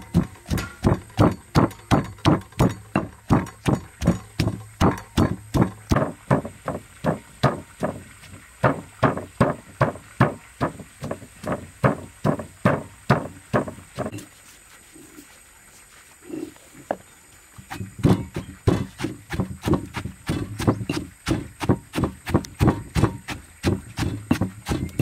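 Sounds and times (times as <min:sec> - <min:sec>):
pestle pounding in stone mortar: 0:00.0 - 0:14.2, 0:17.6 - 0:25.0.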